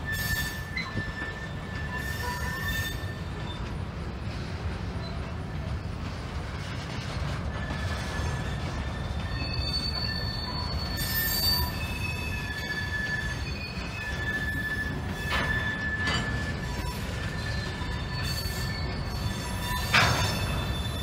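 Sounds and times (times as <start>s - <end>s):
high-pitched wheel squeals: 0.0s - 3.7s, 7.4s - 21.0s
freight train rumbling: 0.0s - 21.0s.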